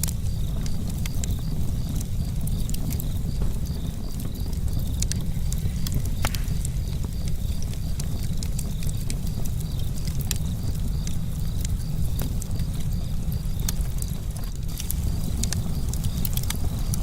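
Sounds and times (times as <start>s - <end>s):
low rumble of flames: 0.0s - 17.0s
wood crackling and popping: 0.0s - 17.0s.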